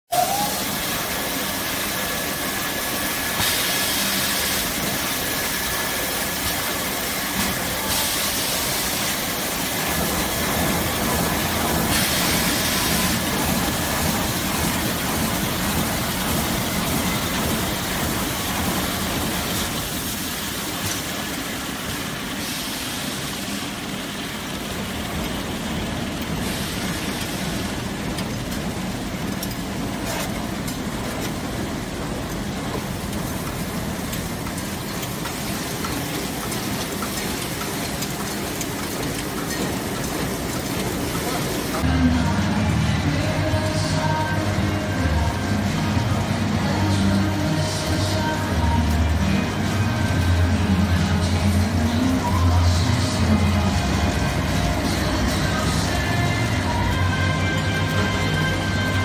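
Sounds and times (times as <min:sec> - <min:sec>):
machine hissing: 0:00.1 - 0:59.0
steady machine noise: 0:00.1 - 0:59.0.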